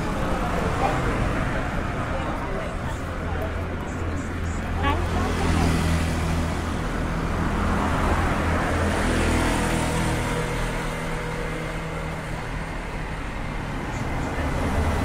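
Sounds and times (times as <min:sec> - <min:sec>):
cars and motorbikes passing: 0:00.0 - 0:15.0.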